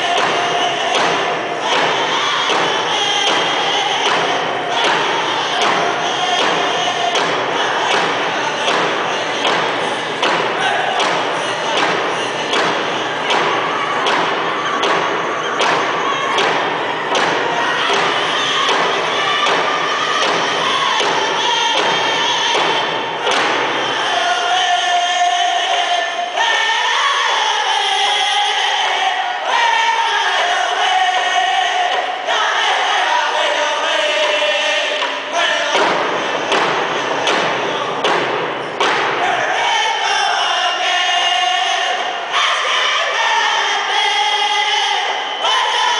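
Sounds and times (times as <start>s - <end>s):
men singing: 0.0s - 13.9s, 17.3s - 38.0s, 39.1s - 45.9s.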